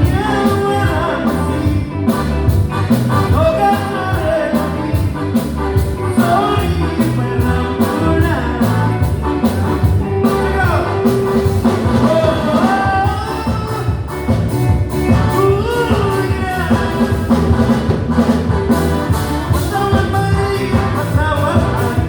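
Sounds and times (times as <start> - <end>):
person singing: 0.0 - 17.9, 19.1 - 22.0
bass: 0.0 - 22.0
steady drum beat: 0.0 - 22.0.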